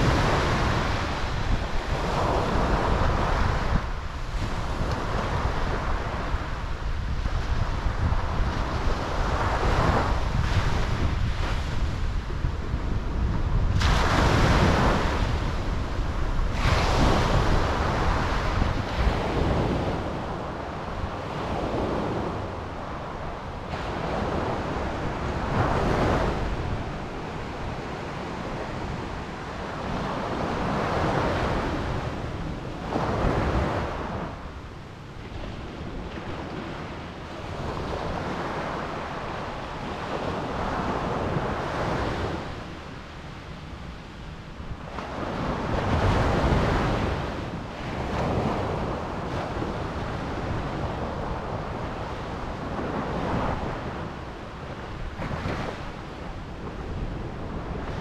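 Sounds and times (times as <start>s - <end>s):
ocean waves breaking: 0.0s - 58.0s
wind rumbling on microphone: 0.0s - 58.0s.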